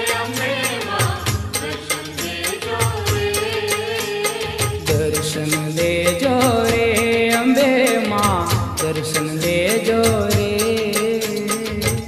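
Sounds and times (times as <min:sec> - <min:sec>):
fast percussion beat: 0:00.0 - 0:12.0.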